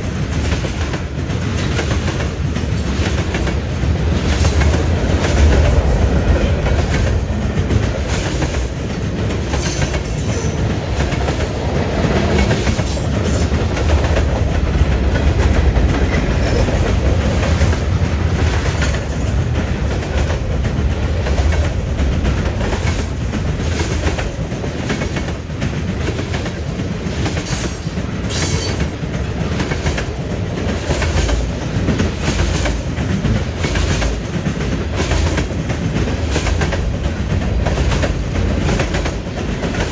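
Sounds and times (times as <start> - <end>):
freight train rumbling past: 0.0 - 39.9
train wheels clacking on rail joints: 0.0 - 39.9.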